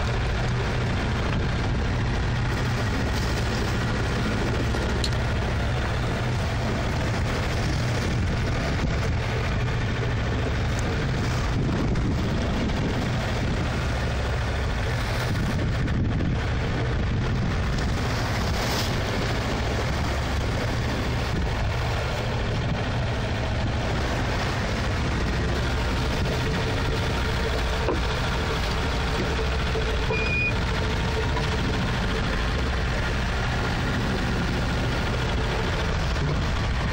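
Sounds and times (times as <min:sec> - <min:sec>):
choppy water along hull: 0:00.0 - 0:36.9
wind buffeting microphone: 0:00.0 - 0:36.9.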